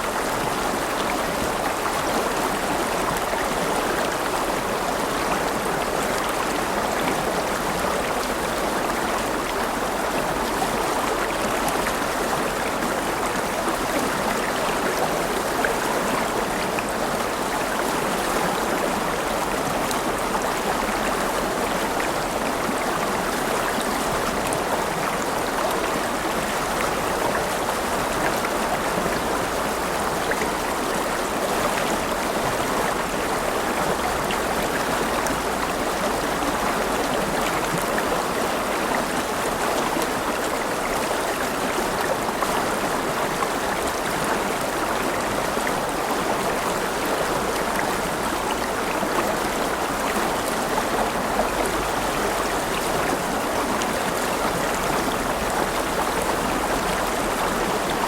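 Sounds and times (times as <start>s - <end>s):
river water rushing over rocks: 0.0s - 58.0s
water splashes and trickles: 0.0s - 58.0s.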